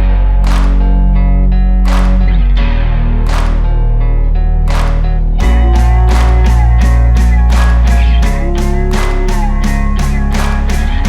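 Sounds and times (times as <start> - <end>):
rock music with electric guitar: 0.0 - 11.0.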